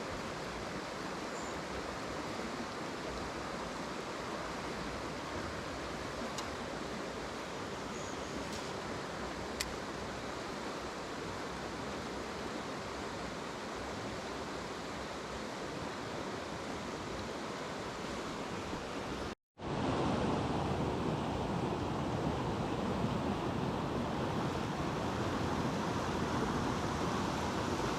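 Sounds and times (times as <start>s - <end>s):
stream rushing over rocks: 0.0s - 27.9s.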